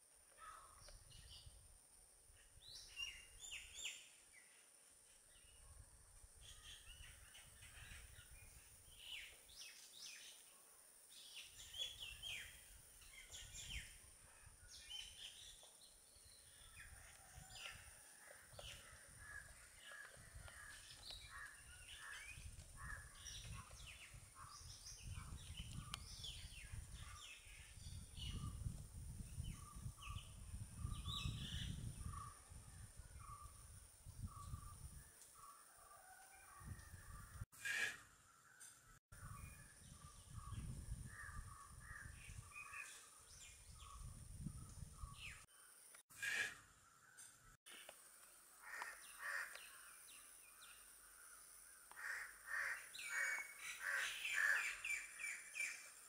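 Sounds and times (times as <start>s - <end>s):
wild birds chirping: 2.3s - 56.0s.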